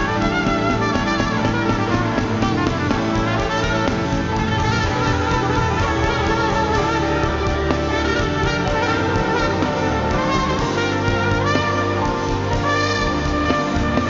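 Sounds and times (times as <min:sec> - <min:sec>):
drum hits: 0:00.0 - 0:14.0
trumpet playing sustained notes: 0:00.0 - 0:14.0
worship band playing: 0:00.0 - 0:14.0.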